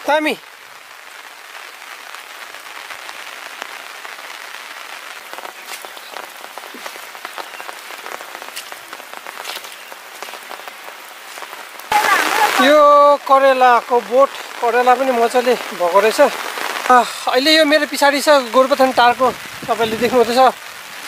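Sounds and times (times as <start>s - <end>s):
rain hiss: 0.0s - 21.0s
raindrop clicks: 3.0s - 20.5s.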